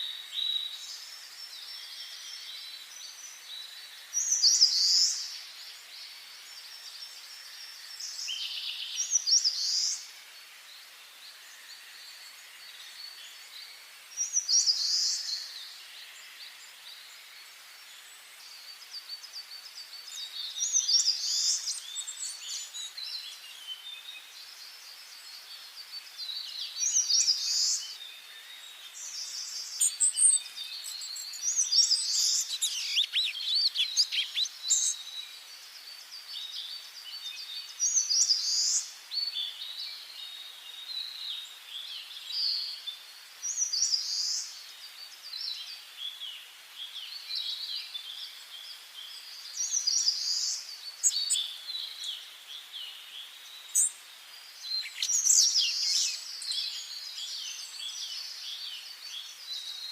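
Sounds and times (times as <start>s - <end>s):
quiet birdsong and chirping: 0.0s - 59.9s.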